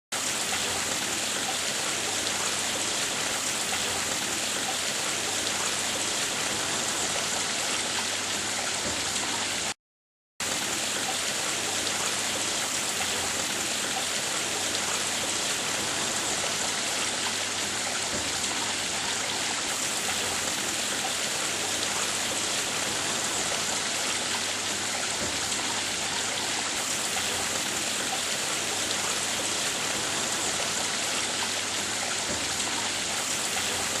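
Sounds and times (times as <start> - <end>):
water splashing over waterfall: 0.1 - 9.8, 10.4 - 34.0.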